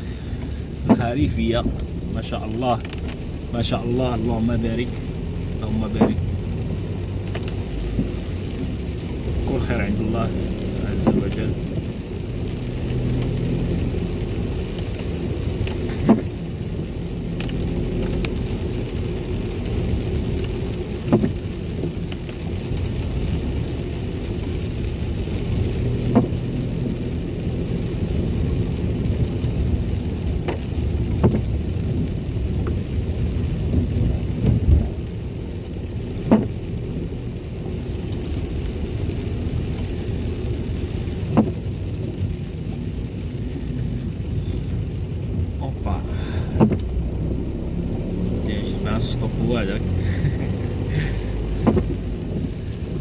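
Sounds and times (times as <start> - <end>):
car interior rumble: 0.0 - 53.0
tyre hiss on wet road: 0.0 - 53.0.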